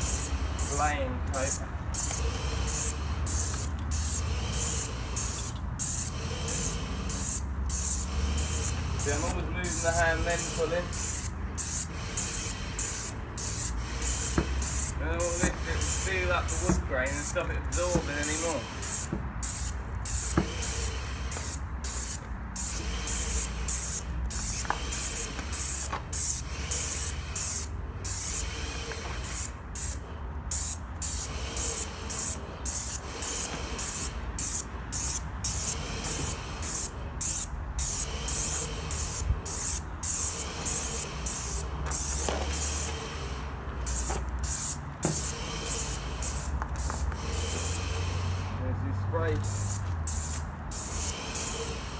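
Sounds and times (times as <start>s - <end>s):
paint sprayer hissing bursts: 0.0s - 48.6s, 49.3s - 51.9s.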